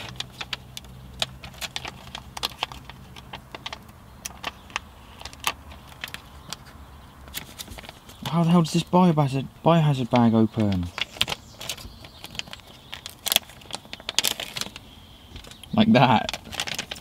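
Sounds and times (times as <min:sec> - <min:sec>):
plastic bag crinkling: 0:00.0 - 0:08.8, 0:10.1 - 0:17.0.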